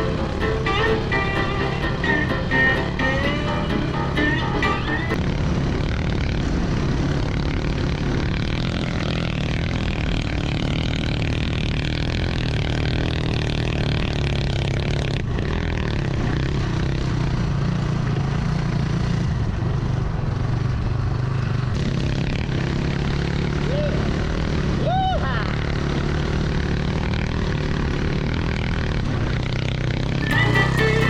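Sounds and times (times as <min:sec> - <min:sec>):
dirt bike engine running: 0:00.0 - 0:24.8, 0:25.4 - 0:31.0
road and wind noise: 0:00.0 - 0:31.0.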